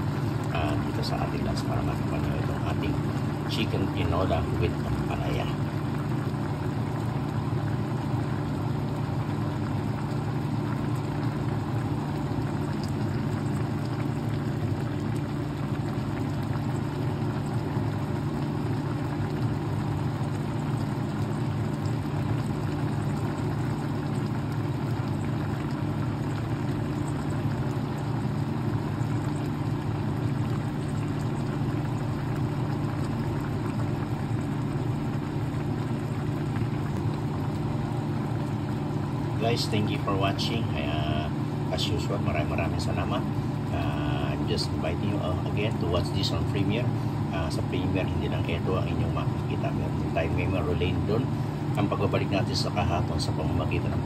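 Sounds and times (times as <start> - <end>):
low motor hum with hiss: 0.0 - 54.0.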